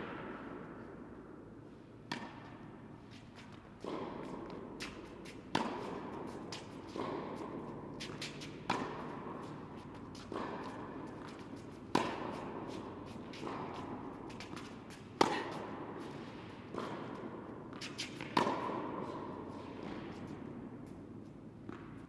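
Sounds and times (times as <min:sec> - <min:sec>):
racket striking tennis ball: 0:00.0 - 0:01.0, 0:02.0 - 0:22.0.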